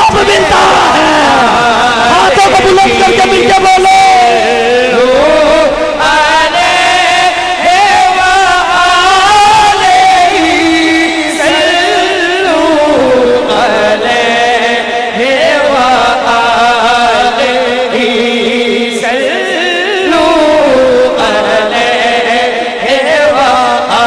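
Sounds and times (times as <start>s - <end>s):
man chanting into microphone: 0.0s - 24.0s.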